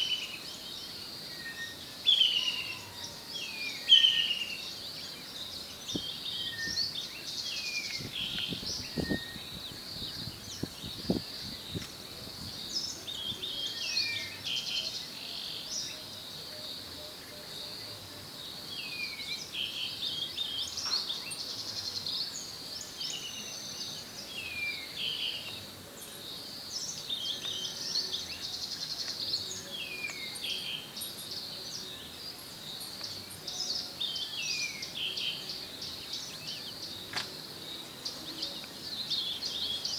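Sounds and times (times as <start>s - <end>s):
birds whistling and singing: 0.0s - 39.9s.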